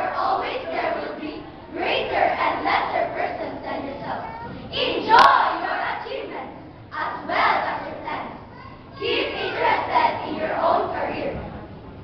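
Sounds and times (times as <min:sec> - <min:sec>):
children reciting in unison: 0:00.0 - 0:11.4.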